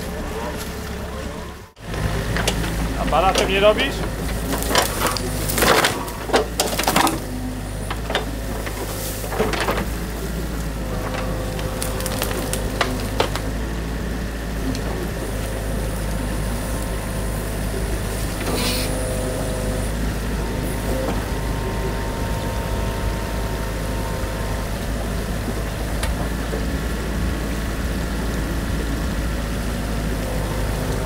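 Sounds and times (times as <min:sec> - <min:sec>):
mini excavator running: 0:00.0 - 0:31.0.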